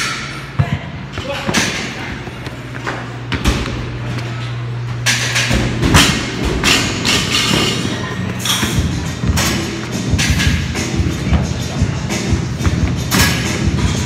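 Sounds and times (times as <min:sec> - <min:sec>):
gym background noise: 0:00.0 - 0:14.0
steady low hum: 0:00.0 - 0:14.0.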